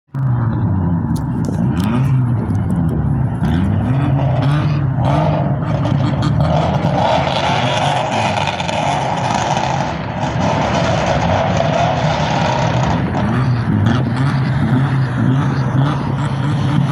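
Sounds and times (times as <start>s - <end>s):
car engines revving: 0.1s - 16.9s
steady droning: 0.1s - 16.9s.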